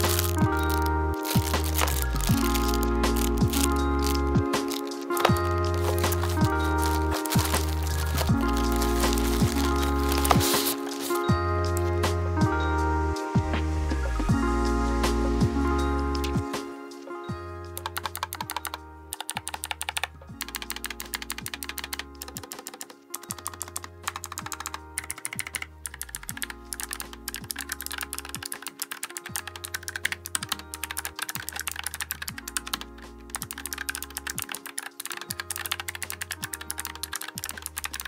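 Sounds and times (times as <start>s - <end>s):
fast clicky keyboard typing: 0.0s - 11.2s, 17.8s - 38.0s
background music with bass: 0.0s - 38.0s.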